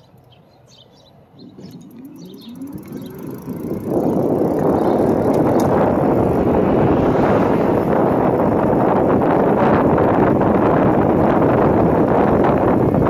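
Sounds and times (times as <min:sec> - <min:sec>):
wind buffeting microphone: 0:00.0 - 0:13.0
e-bike motor rising whine: 0:01.3 - 0:13.0.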